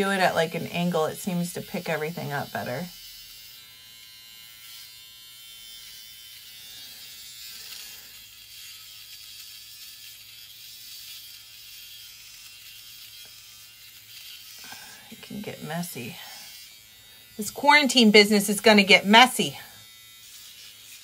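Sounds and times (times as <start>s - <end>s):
hair trimmer buzzing: 0.0s - 21.0s.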